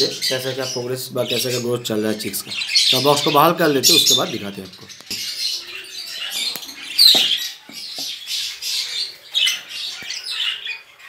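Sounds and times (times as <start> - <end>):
bird chicks squawking: 0.0 - 11.0.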